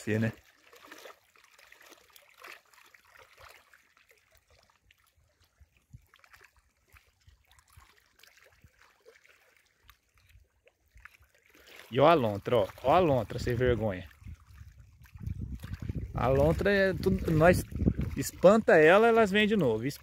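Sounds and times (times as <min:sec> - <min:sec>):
river water lapping: 0:00.0 - 0:20.0.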